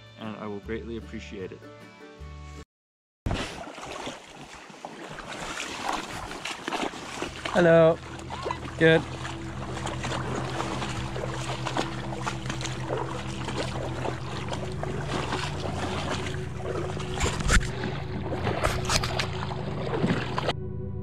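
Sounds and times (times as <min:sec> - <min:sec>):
water rippling against raft hull: 0:03.3 - 0:20.5.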